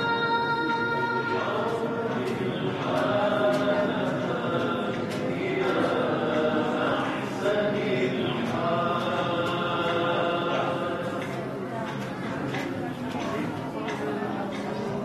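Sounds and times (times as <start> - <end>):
crowd chanting: 0.0 - 12.5.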